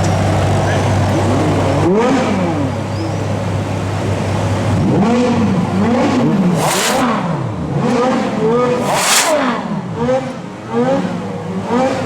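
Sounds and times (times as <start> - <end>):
car engines idling and revving: 0.0 - 12.0.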